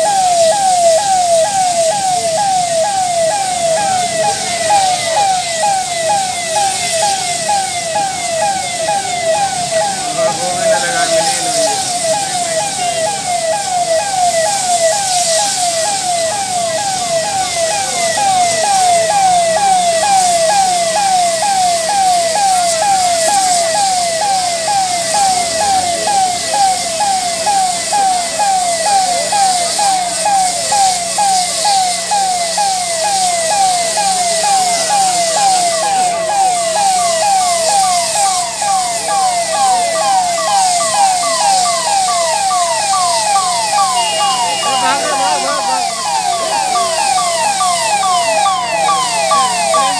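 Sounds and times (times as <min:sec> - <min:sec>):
constant hiss: 0:00.0 - 0:49.9
emergency vehicle siren yelping: 0:00.0 - 0:49.9.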